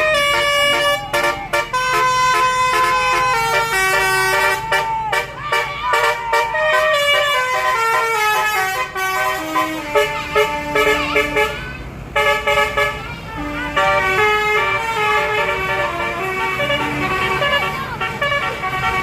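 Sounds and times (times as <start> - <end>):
musical air horn melody: 0.0 - 11.6, 12.2 - 19.0.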